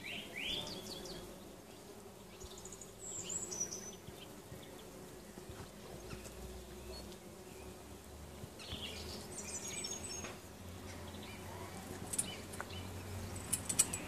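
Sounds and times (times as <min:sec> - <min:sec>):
bumblebees buzzing: 0:00.0 - 0:14.0.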